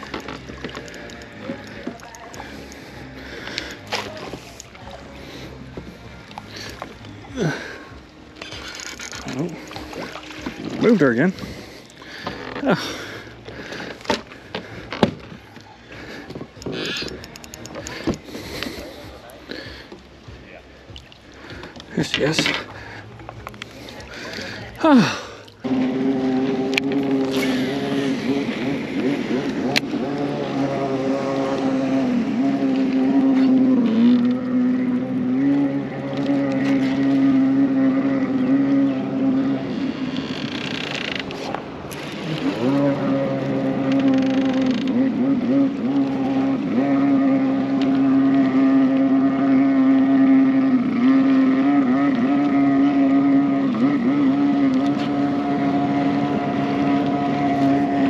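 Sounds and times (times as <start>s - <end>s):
boat motor humming: 0.0s - 58.0s.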